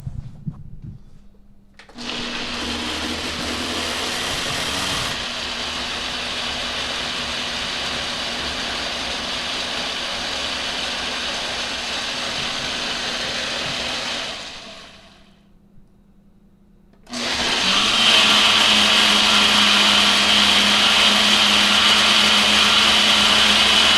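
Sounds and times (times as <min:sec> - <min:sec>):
electric blender whirring: 0:01.9 - 0:15.4, 0:17.0 - 0:23.9.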